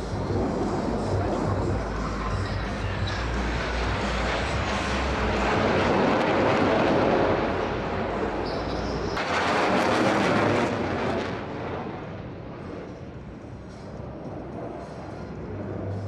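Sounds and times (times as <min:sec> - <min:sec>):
jet aircraft flying past: 0:00.0 - 0:16.0.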